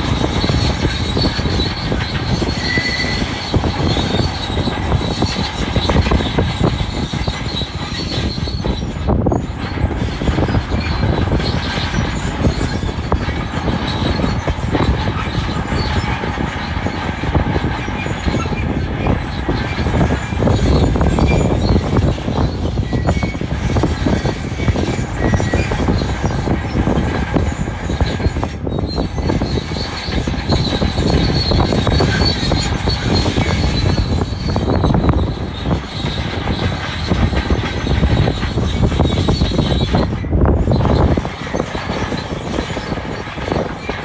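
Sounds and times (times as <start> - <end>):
crawler tracks clanking and squealing: 0.0 - 44.0
diesel engine under load: 0.0 - 44.0.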